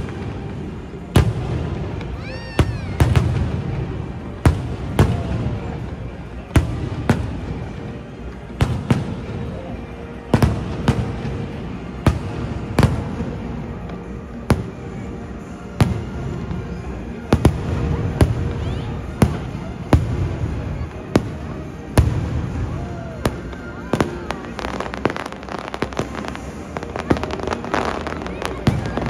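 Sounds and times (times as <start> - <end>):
continuous rumble: 0.0 - 29.0.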